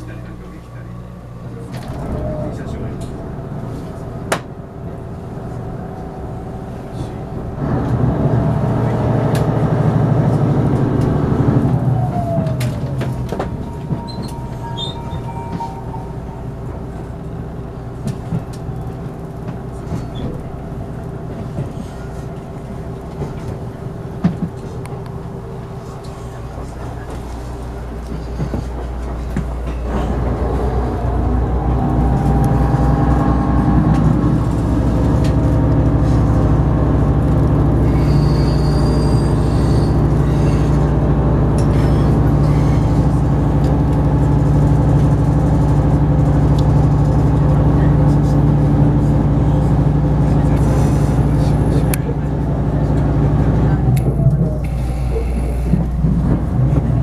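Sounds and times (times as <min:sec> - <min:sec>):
diesel generator engine running: 0:00.1 - 0:57.0.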